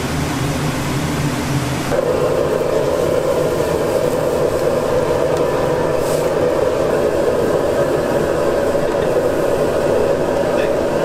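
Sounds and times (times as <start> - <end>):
gas burner roaring: 0.0 - 11.0.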